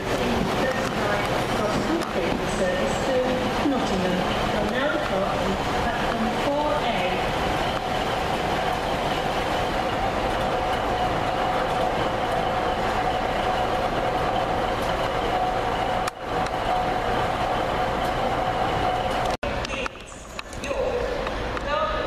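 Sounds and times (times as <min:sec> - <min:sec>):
constant whine: 0:00.0 - 0:22.0
train diesel engines running: 0:00.0 - 0:22.0
train wheel noise: 0:00.0 - 0:22.0.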